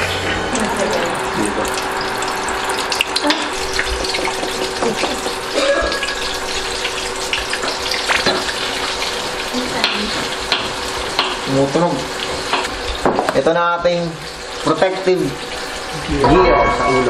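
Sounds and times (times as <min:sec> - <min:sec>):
chicken sizzling in hot oil: 0:00.0 - 0:16.3.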